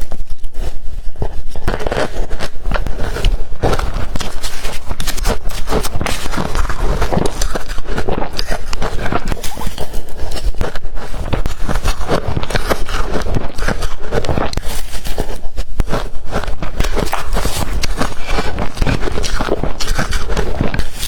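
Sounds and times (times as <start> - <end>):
crushed ice being chewed: 0.0 - 21.0.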